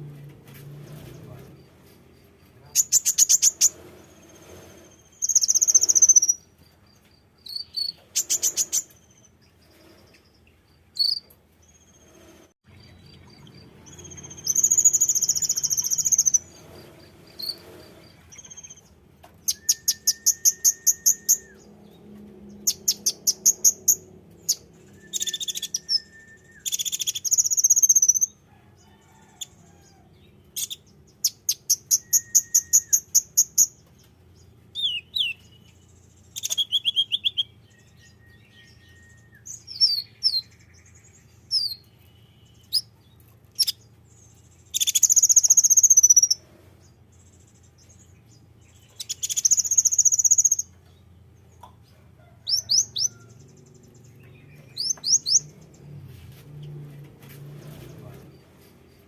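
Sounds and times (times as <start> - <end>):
bird ticking trills and chirps: 1.2 - 12.1, 12.7 - 28.4, 29.4 - 46.4, 47.0 - 56.0.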